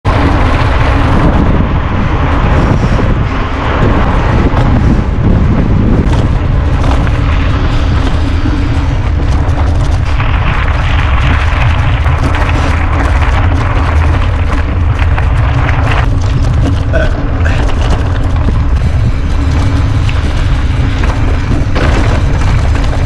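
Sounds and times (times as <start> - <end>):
wind buffeting microphone: 0.0 - 23.0
bike knocking over rough ground: 4.4 - 23.0.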